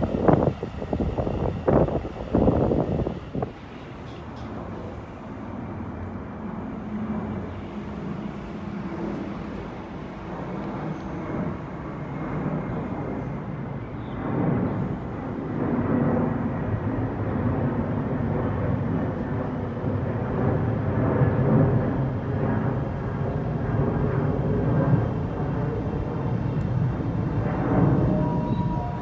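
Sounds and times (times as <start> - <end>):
train rumbling through station: 0.0 - 29.0.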